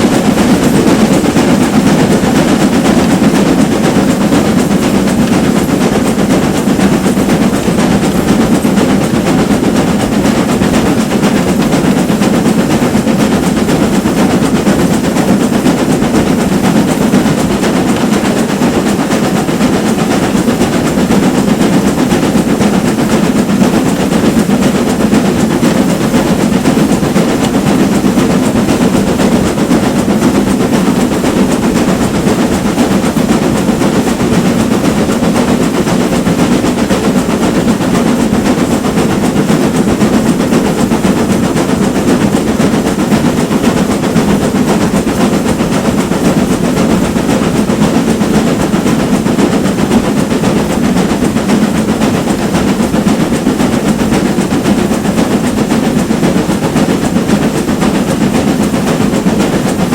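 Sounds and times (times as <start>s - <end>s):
steam train rumbling on rails: 0.0s - 59.9s.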